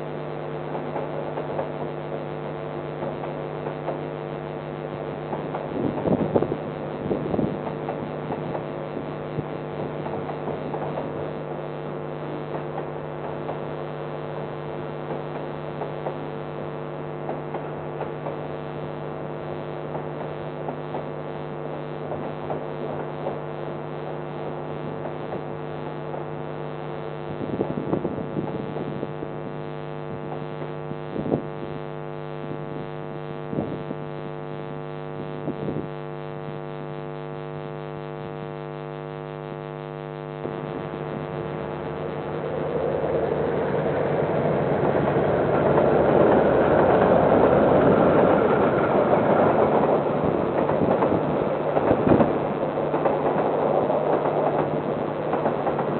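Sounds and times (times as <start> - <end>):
electrical mains hum: 0.0 - 55.9.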